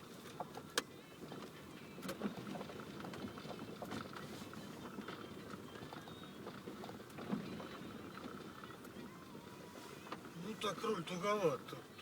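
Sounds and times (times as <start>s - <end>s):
rumbling road noise: 0.0s - 12.0s.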